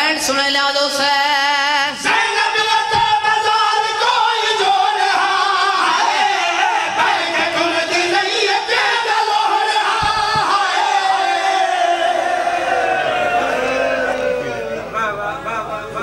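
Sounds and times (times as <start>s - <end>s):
men singing a lament: 0.6s - 16.0s.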